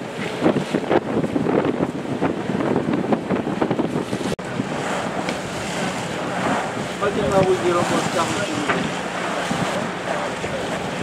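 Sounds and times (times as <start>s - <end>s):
sea wash: 0.0s - 11.0s
wind buffeting microphone: 0.0s - 11.0s.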